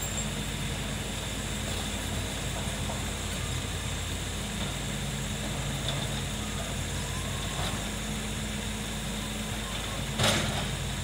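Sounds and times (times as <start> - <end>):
excavator diesel engine hum: 0.0 - 11.0.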